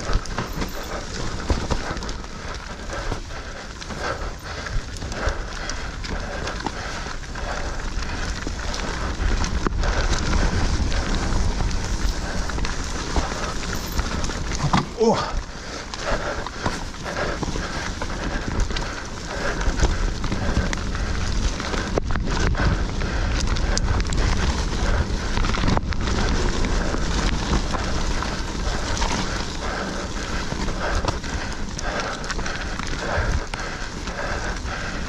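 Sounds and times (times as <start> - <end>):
bike clicking and rattling: 0.0 - 35.0
bike tyres on dirt: 0.0 - 35.0
wind rumble on microphone: 0.0 - 35.0.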